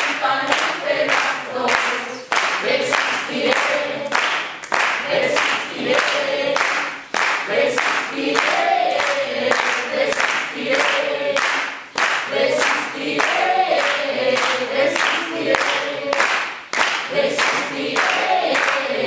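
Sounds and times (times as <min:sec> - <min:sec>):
group singing in unison: 0:00.0 - 0:19.0.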